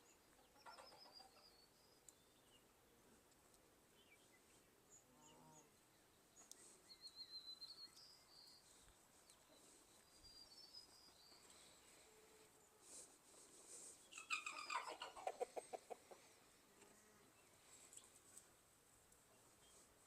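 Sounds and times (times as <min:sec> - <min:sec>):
birds chirping: 0:00.0 - 0:03.0, 0:03.8 - 0:18.3.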